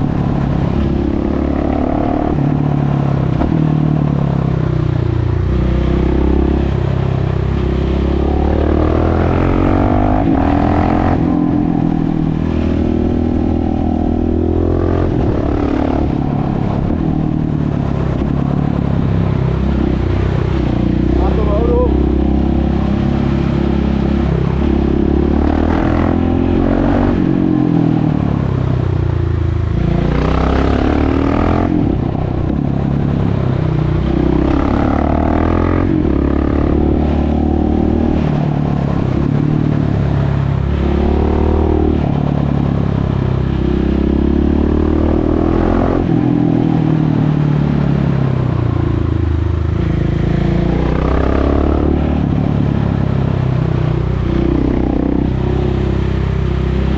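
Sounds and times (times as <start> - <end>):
motorcycle engine revving: 0.0 - 28.6, 29.3 - 56.9.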